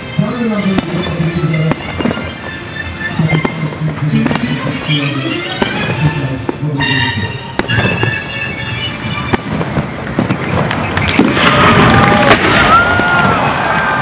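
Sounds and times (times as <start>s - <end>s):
fireworks crackling and banging: 0.0s - 14.0s
high whistling tones: 0.0s - 14.0s.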